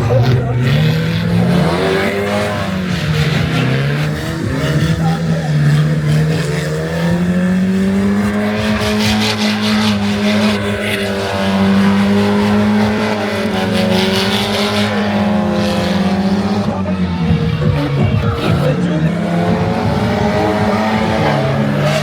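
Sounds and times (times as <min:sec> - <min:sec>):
vehicle engine revving high: 0:00.0 - 0:22.0.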